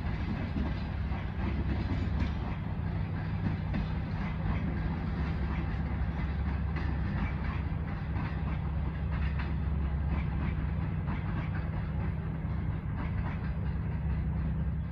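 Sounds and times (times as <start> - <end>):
train low rumble: 0.0 - 14.9
train wheels clicking over rail joints: 0.0 - 14.9.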